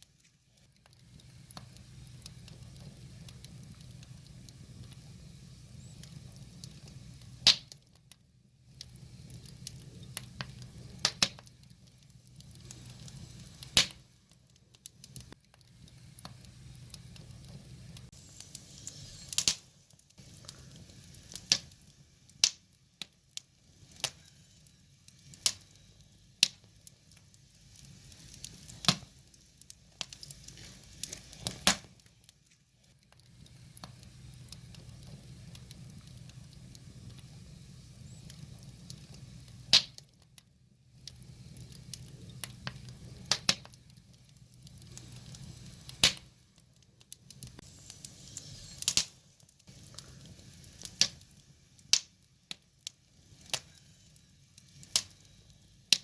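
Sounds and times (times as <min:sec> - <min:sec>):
fire crackling: 0:00.0 - 0:56.0
hiss of burning wood: 0:00.0 - 0:56.0.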